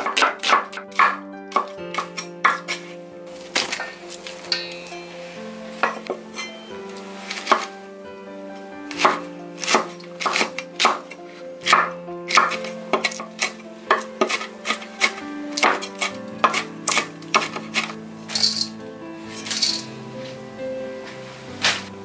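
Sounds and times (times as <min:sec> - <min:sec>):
soft background music: 0:00.0 - 0:22.0.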